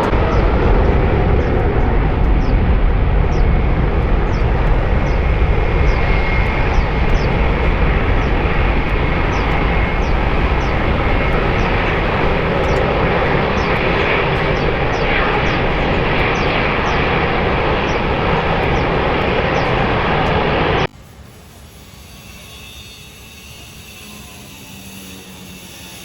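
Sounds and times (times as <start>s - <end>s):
faint high whine: 0.0s - 26.0s
jet engines roaring: 0.0s - 26.0s.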